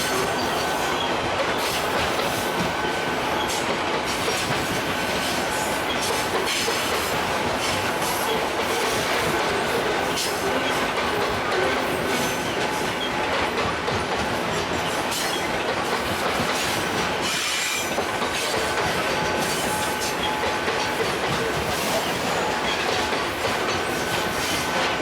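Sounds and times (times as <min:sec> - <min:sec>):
train wheels clattering over rail joints: 0:00.0 - 0:25.0.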